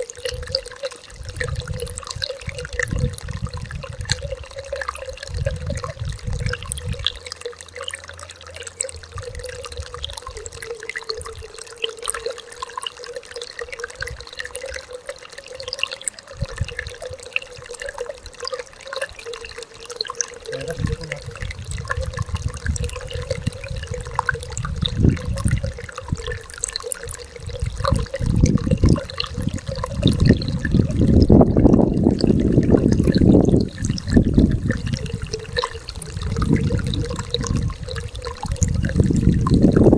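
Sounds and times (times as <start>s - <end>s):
stream water trickling and splashing: 0.0s - 39.9s.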